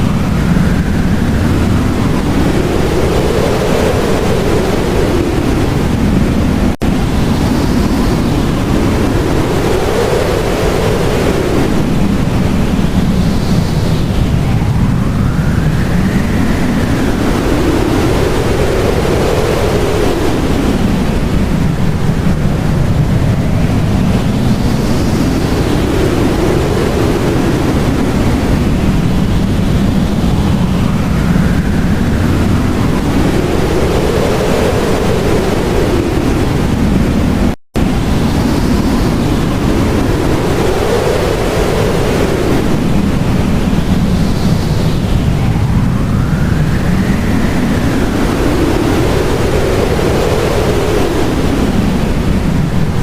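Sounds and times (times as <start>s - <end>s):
howling blizzard wind: 0.0s - 53.0s.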